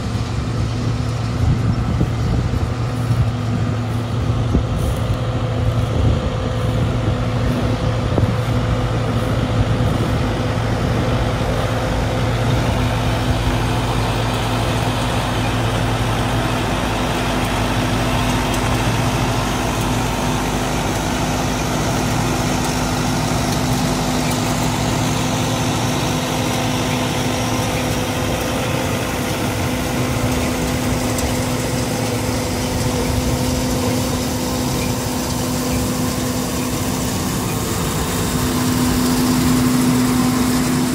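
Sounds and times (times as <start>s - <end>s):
harvester mechanical drone: 0.0s - 40.9s.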